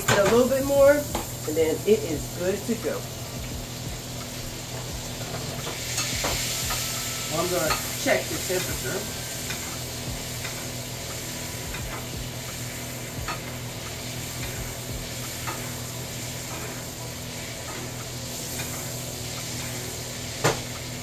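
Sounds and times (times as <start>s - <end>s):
steady low hum: 0.0s - 21.0s
steak sizzling in a pan: 0.0s - 21.0s.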